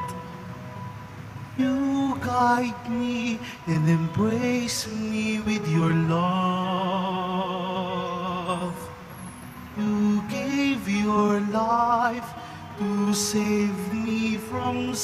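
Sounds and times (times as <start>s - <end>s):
solo voice singing a hymn: 1.6s - 9.1s, 9.8s - 15.0s.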